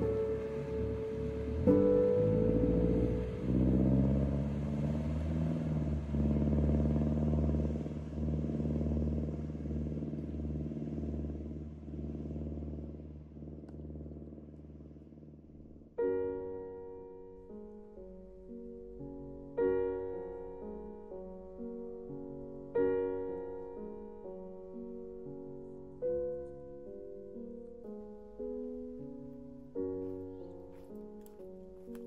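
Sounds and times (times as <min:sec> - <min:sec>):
soft piano music: 0:00.0 - 0:32.0
steady low drone: 0:00.0 - 0:32.0.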